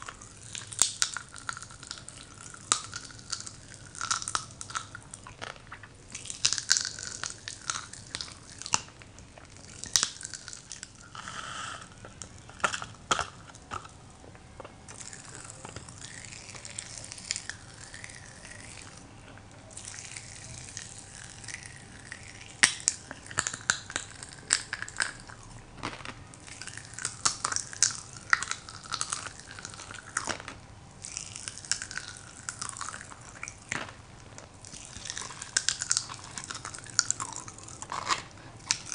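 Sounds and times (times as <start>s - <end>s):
popping candy crackling: 0.0s - 38.9s
wet chewing: 0.0s - 38.9s.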